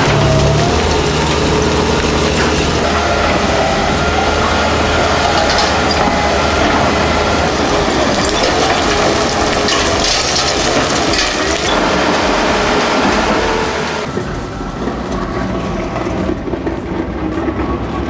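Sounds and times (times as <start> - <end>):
industrial shredder grinding: 0.0 - 14.9
metallic squeals: 0.0 - 16.4.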